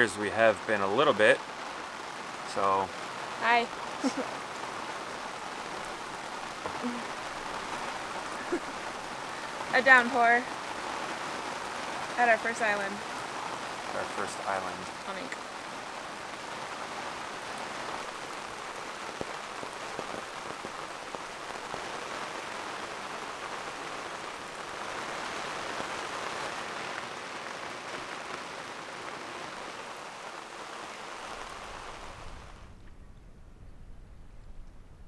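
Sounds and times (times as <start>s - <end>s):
heavy rain on water: 0.0s - 33.0s
rain drops ticking: 0.0s - 35.0s.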